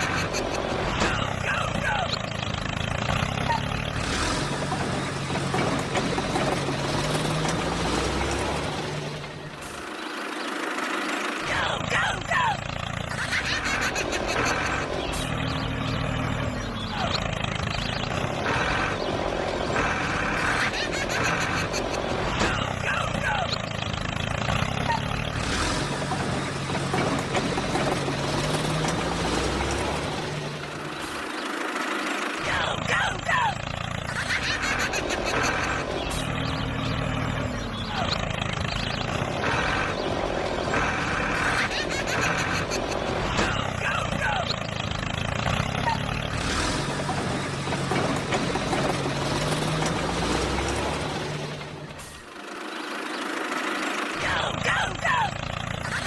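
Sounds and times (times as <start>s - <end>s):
tractor motor droning: 0.0s - 56.0s.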